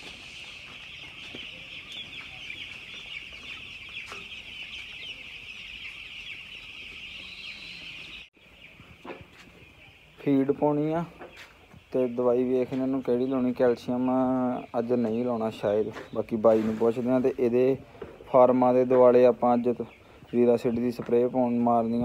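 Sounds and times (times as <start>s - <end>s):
chicks cheeping: 0.0s - 22.0s.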